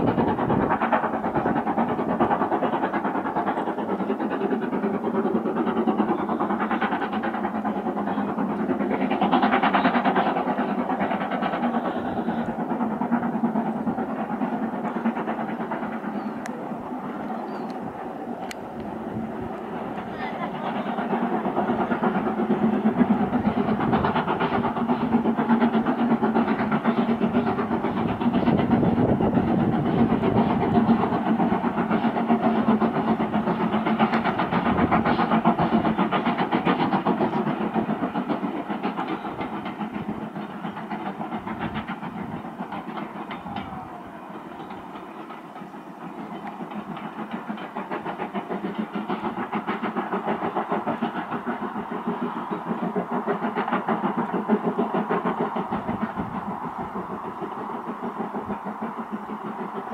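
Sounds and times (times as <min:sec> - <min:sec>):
steam locomotive chuffing: 0:00.0 - 0:59.9.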